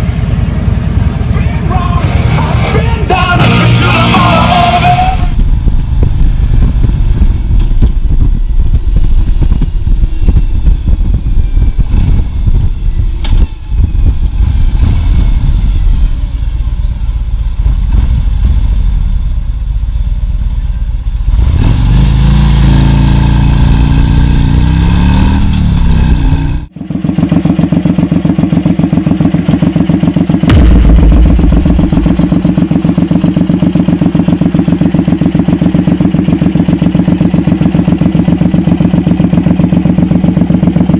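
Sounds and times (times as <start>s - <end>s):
motorcycle accelerating on road: 0.0s - 40.9s
motorcycle idling and revving: 0.0s - 40.9s.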